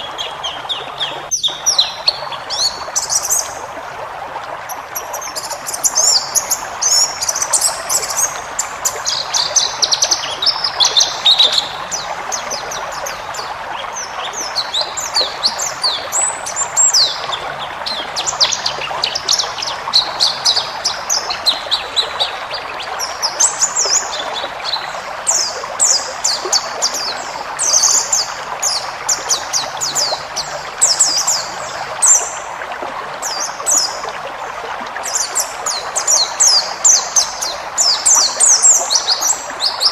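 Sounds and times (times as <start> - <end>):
bird twittering song: 0.0 - 3.7, 4.7 - 32.5, 35.0 - 39.9.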